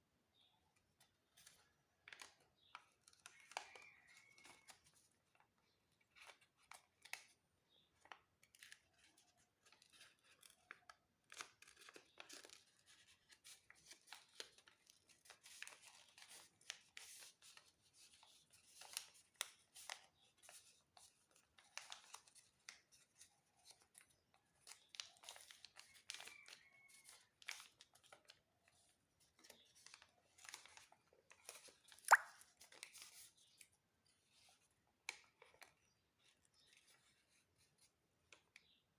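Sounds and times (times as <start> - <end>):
paper being folded and creased: 1.0 - 7.4, 8.0 - 38.6.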